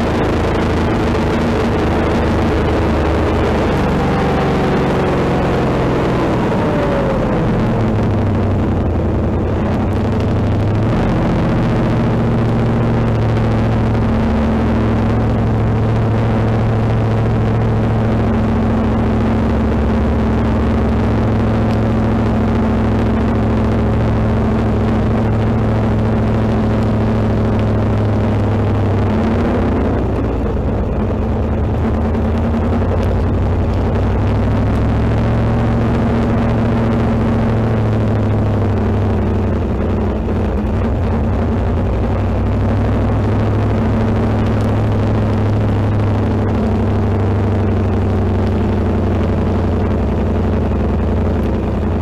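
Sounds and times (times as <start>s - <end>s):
race car engine: 0.0s - 52.0s.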